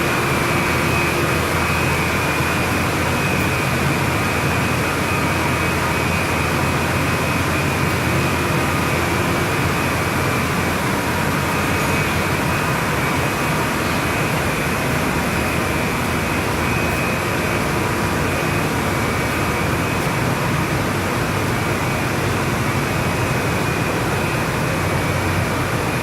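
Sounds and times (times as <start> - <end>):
faint high whine: 0.0 - 26.0.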